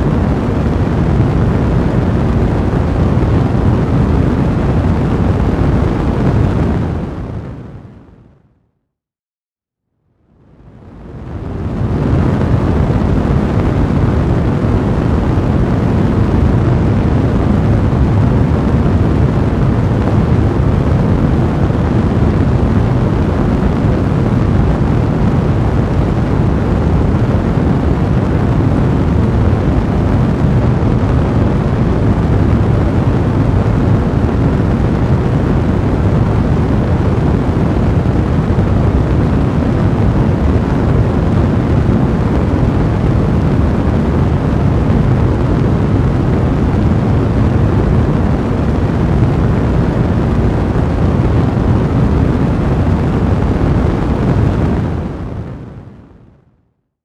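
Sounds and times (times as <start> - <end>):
fireplace fire rumbling and crackling: 0.0 - 8.5, 10.3 - 56.2.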